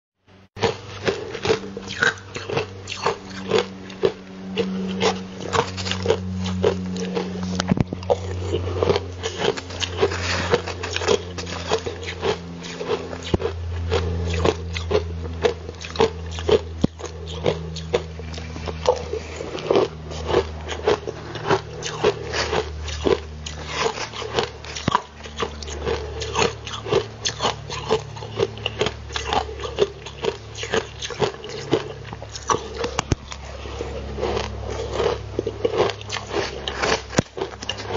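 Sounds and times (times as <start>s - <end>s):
ice crunching between teeth: 0.6s - 37.9s.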